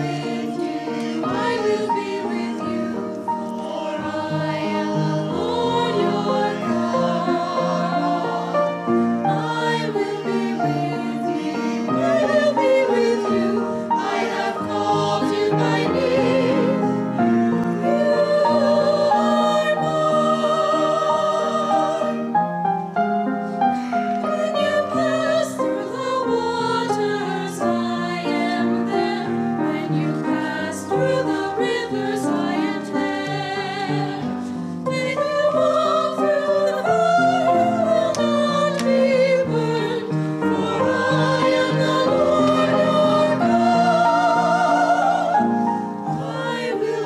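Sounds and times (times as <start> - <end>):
choir singing: 0.0 - 22.8, 23.8 - 47.0
piano accompaniment: 0.0 - 47.0.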